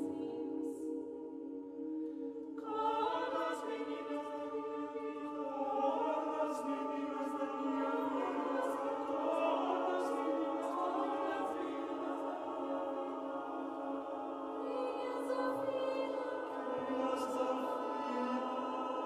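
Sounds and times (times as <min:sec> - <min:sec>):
choir singing chords: 0:00.0 - 0:19.0.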